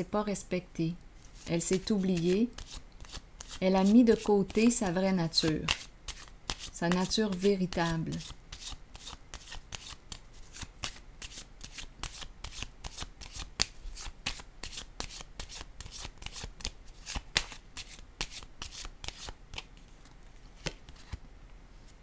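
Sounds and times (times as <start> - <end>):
cards being shuffled: 1.2 - 21.2.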